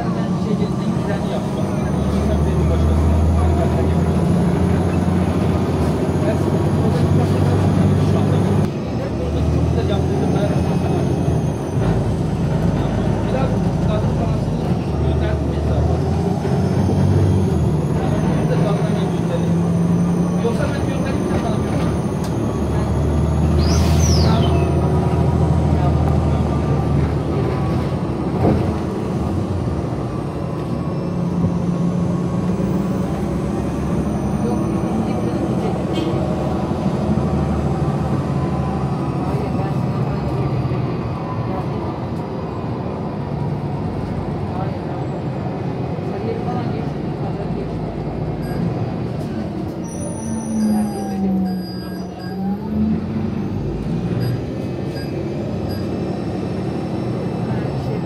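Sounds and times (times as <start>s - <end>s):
vehicle rumbling: 0.0s - 58.0s.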